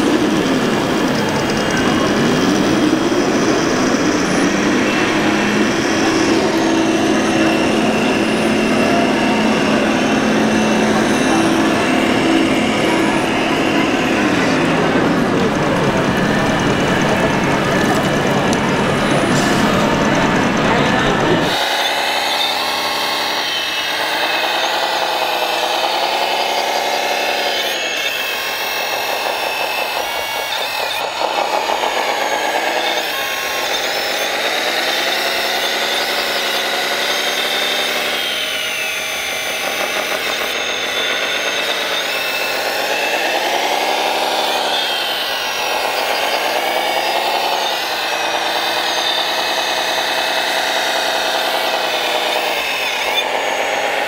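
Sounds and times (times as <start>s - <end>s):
model motor whine: 0.0s - 54.0s.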